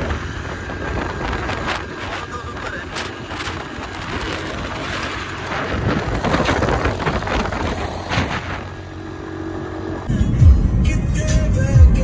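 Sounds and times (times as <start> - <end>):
wind rushing over microphone: 0.0 - 10.8
motorcycle road and engine noise: 0.0 - 12.0.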